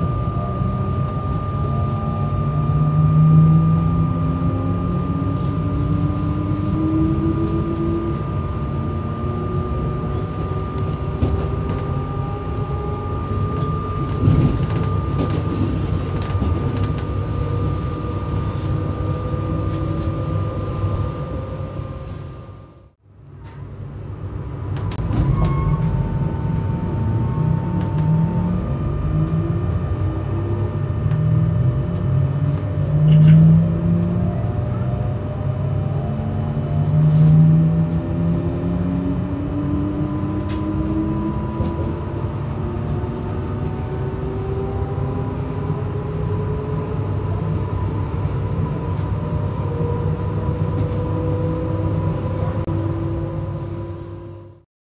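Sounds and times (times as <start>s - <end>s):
electric train motors whining: 0.0s - 22.8s, 23.4s - 54.6s
low train running rumble: 0.0s - 54.6s.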